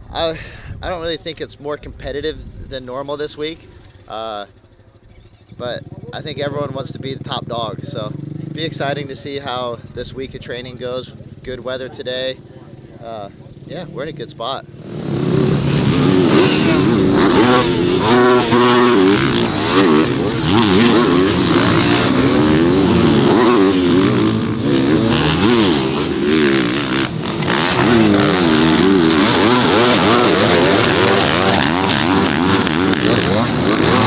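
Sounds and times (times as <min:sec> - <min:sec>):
dirt bike engines revving: 0:03.4 - 0:34.0.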